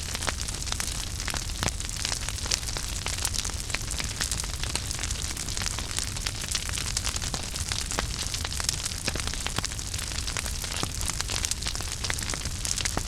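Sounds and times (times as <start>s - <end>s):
fire crackling and popping: 0.0s - 13.0s
fire low rumble and hiss: 0.0s - 13.0s.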